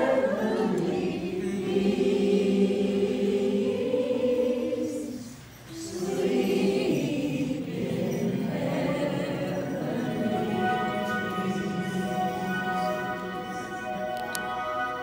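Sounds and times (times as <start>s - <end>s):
group singing a carol: 0.0s - 15.0s.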